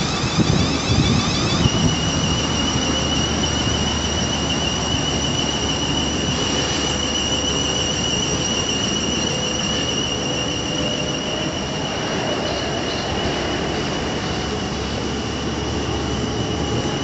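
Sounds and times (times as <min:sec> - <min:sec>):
high traction whine: 0:00.0 - 0:17.0
train rumbling: 0:00.0 - 0:17.0.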